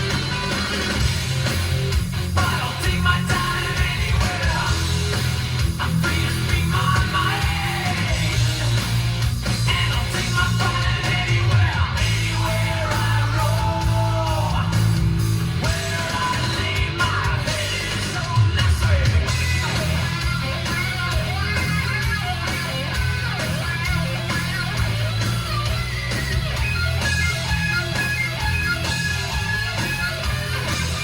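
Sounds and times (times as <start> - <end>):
rock music through car stereo: 0.0 - 31.0.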